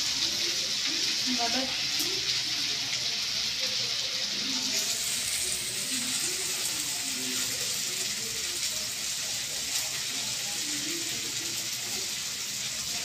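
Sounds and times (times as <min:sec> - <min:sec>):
faint indistinct voices: 0:00.0 - 0:13.0.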